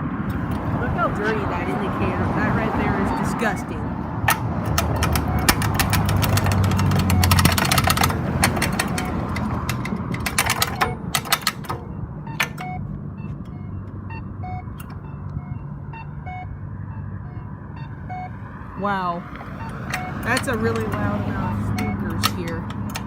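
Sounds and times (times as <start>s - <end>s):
crosswalk locator beeps: 0.0s - 23.0s
crosswalk signal clicking: 0.0s - 23.0s
passing traffic rumble: 0.0s - 23.0s.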